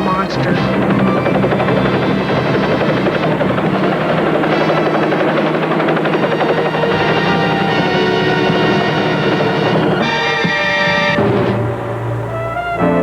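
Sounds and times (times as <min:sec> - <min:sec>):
cartoon helicopter-like whirring: 0:00.0 - 0:13.0.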